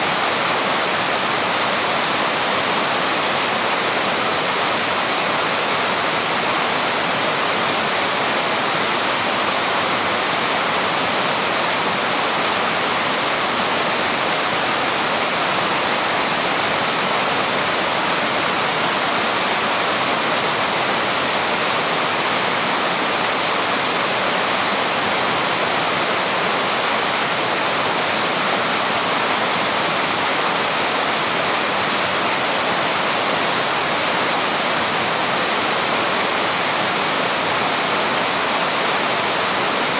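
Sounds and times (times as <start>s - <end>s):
waterfall splashing over rock: 0.0s - 39.9s.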